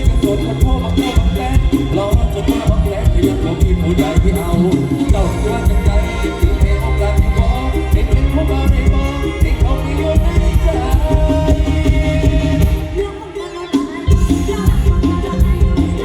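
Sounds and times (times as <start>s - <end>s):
thumping bass drum beat: 0.0s - 13.1s, 14.1s - 16.0s
loud stage band music: 0.0s - 16.0s.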